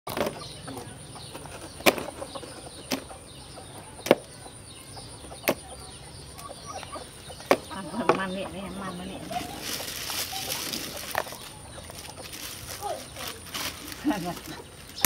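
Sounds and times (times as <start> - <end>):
birds chirping faintly: 0.1 - 15.0.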